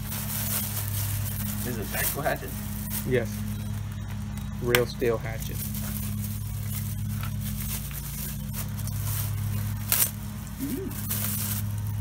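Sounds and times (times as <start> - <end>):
plastic wrapping crinkling: 0.0 - 12.0
steady low hum: 0.0 - 12.0.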